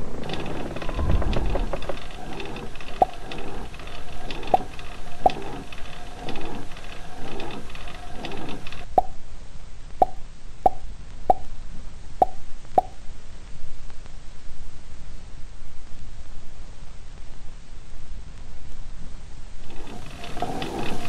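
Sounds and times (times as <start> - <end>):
soft layered hum: 0.0 - 21.0.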